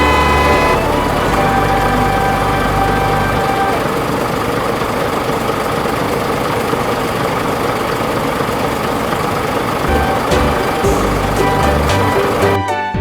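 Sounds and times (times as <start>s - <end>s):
steady engine-like running noise: 0.0s - 12.8s.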